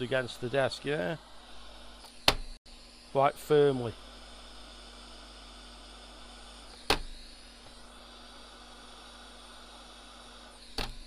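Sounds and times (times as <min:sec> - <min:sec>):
hot air blower hissing: 0:00.0 - 0:11.0.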